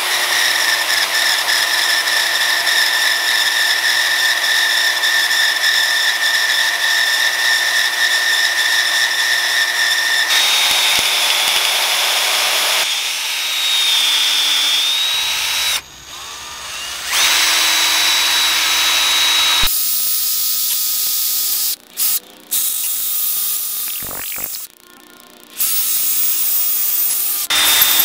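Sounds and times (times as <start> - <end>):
power tool whining: 0.0 - 28.0.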